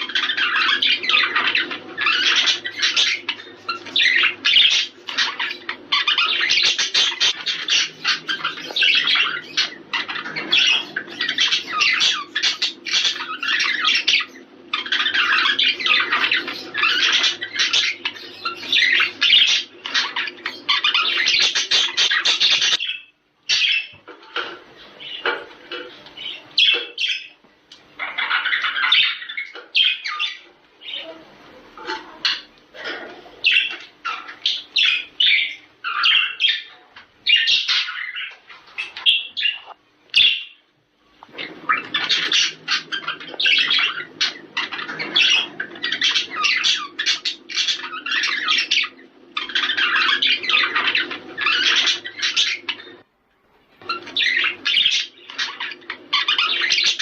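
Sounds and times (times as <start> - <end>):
budgerigars chattering and warbling: 0.0 - 53.1, 53.8 - 57.0.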